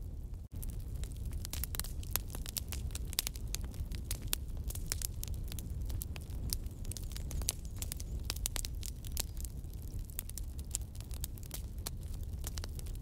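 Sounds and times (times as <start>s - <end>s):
low rumble of burning: 0.0s - 13.0s
wood fire crackling: 0.0s - 13.0s.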